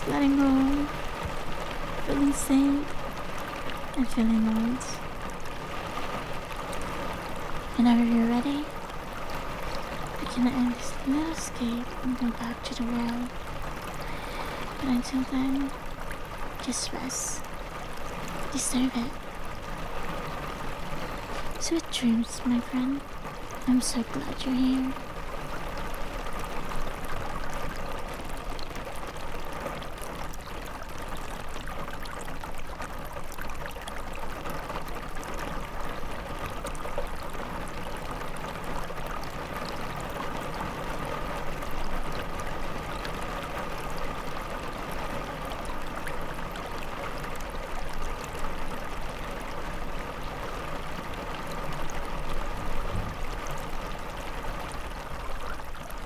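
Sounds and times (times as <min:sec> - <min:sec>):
heavy rain falling: 0:00.0 - 0:56.0
raindrop ticks: 0:00.0 - 0:56.0.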